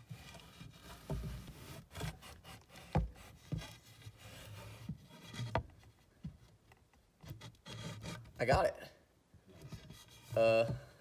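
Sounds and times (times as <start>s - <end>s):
pole scraping against wood: 0.0s - 8.8s, 9.5s - 10.8s.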